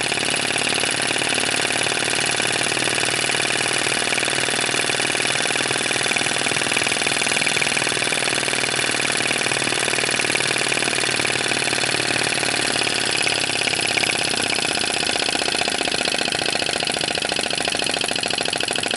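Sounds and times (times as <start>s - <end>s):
model engine clattering: 0.0s - 18.9s.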